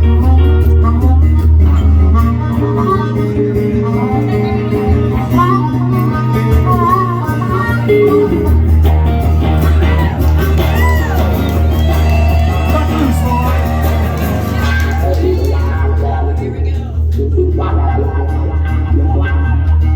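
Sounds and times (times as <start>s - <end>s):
live band playing blues: 0.0s - 19.9s.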